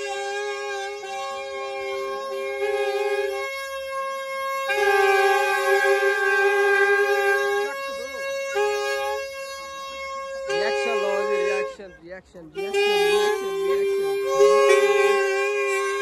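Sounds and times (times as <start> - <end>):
reedy wind instrument drone: 0.0 - 16.0.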